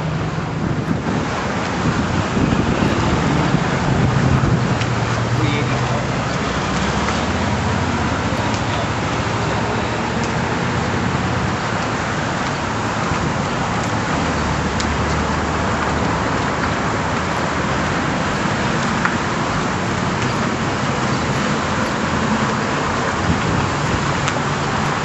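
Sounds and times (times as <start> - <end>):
road noise: 0.0 - 25.0
vehicle engine hum: 0.0 - 25.0.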